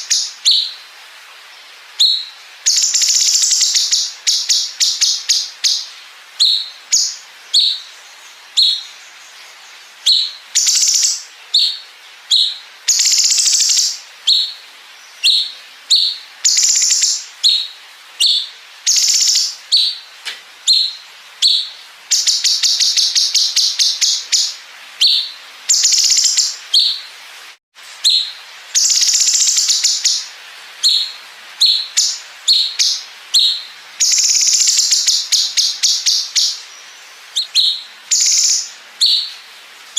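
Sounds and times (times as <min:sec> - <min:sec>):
bird chirping: 0:00.0 - 0:27.1, 0:27.8 - 0:39.9.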